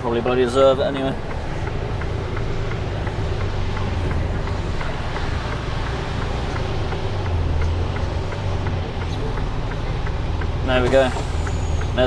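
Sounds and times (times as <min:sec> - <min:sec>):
light regular ticking: 0:00.0 - 0:12.0
lorry diesel engine running low: 0:00.0 - 0:12.0.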